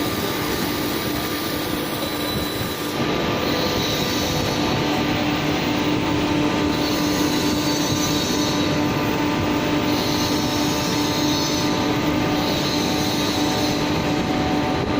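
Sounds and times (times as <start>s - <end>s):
machine humming with hiss: 0.0s - 14.9s.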